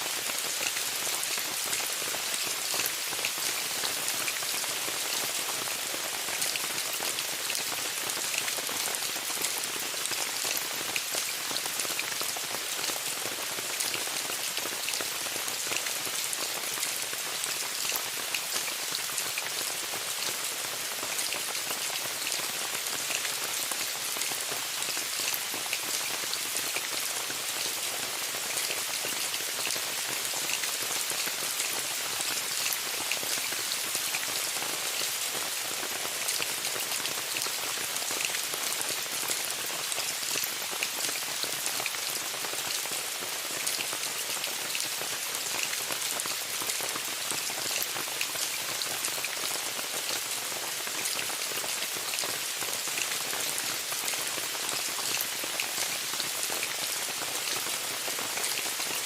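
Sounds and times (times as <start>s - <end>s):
rain falling on a tent: 0.0s - 59.0s.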